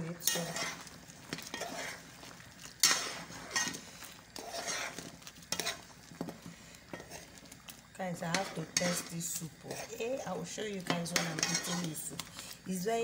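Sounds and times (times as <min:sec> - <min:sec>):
spoon stirring thick soup: 0:00.0 - 0:12.7.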